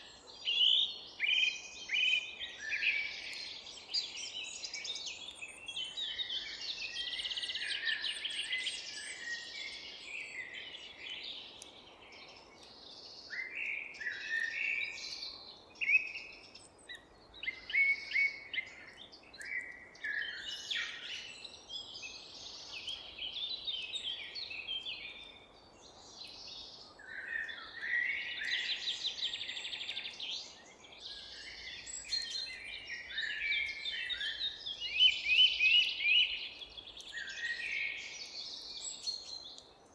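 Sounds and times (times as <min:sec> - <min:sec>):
faint outdoor background hiss: 0:00.0 - 0:39.9
songbirds singing and calling: 0:00.0 - 0:39.9.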